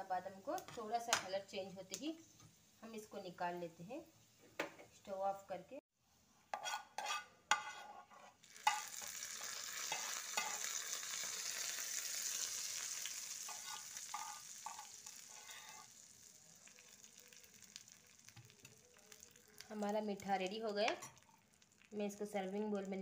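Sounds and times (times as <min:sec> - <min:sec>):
hot ghee sizzling: 0:00.0 - 0:04.4, 0:06.5 - 0:23.0.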